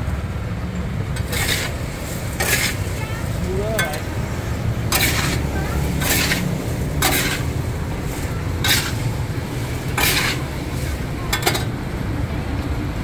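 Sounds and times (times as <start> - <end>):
low rumble of road traffic: 0.0 - 13.0
metal scoop scraping sand and chestnuts: 1.2 - 11.7.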